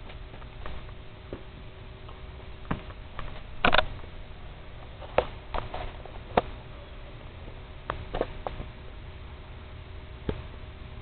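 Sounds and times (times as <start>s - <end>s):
air conditioner unit humming: 0.0s - 11.0s
faint steady tones: 0.0s - 11.0s.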